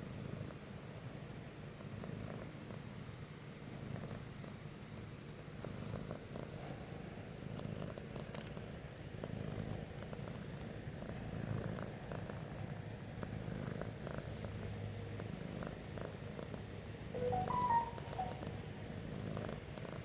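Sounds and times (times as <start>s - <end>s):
cat purring: 0.2s - 16.7s.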